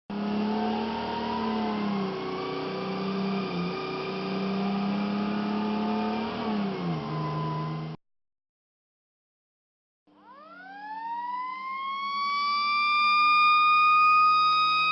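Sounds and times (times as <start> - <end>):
fire truck engine droning: 0.1 - 8.0, 10.1 - 14.9.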